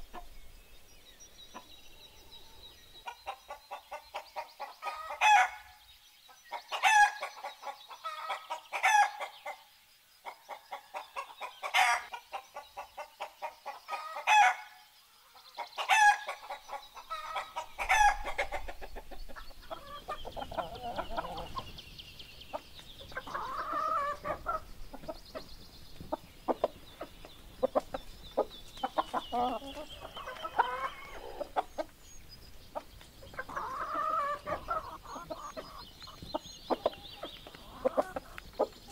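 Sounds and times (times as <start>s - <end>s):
chickens clucking: 0.0s - 0.4s, 1.5s - 38.9s.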